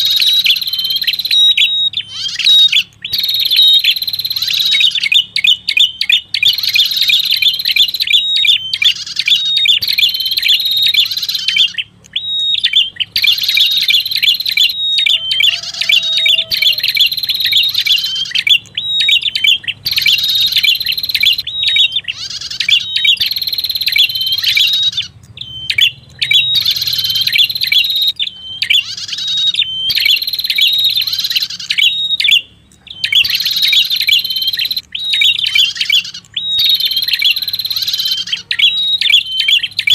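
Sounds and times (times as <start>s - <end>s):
warbler chirping song: 0.0s - 39.9s.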